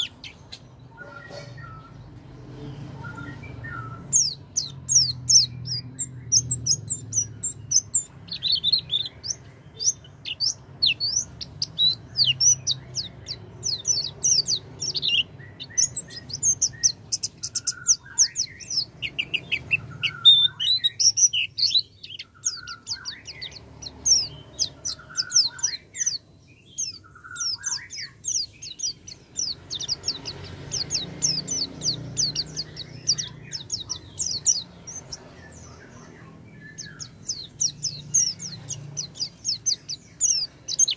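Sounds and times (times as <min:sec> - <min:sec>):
birds twittering and trilling: 0:00.0 - 0:40.9.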